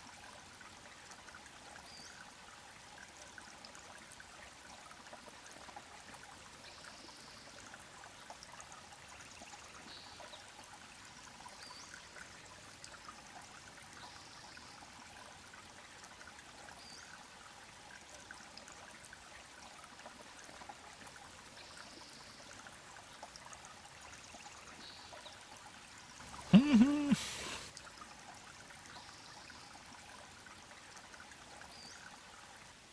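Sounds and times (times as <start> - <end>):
faint creek flowing: 0.0 - 32.9.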